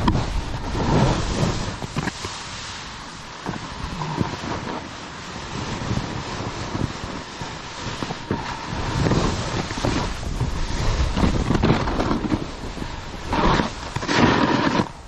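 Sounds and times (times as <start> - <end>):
skis carving through snow: 0.0 - 15.0
wind rushing over microphone: 0.0 - 15.0.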